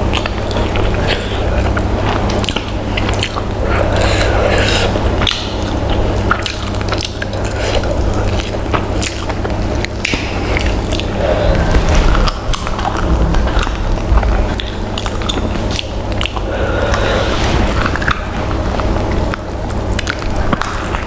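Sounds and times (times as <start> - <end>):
chewing with mouth clicks: 0.0 - 21.0
steady low hum: 0.0 - 21.0.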